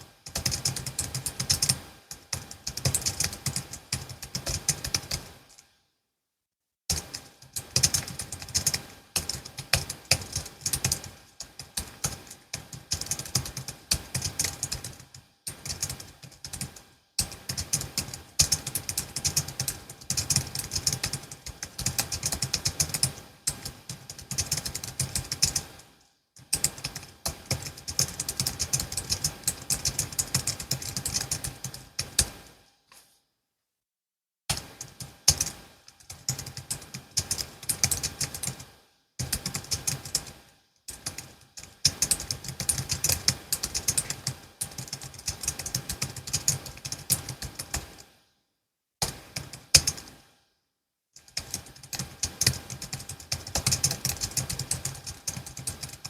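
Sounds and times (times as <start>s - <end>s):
fast typing on a keyboard: 0.2s - 5.5s, 6.9s - 25.8s, 26.4s - 32.5s, 34.5s - 48.0s, 49.0s - 50.2s, 51.2s - 56.0s.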